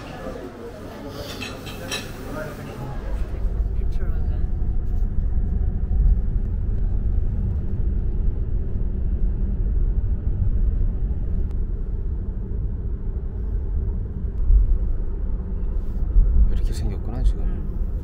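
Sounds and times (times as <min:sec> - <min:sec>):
steady low rumble: 0:02.7 - 0:18.0.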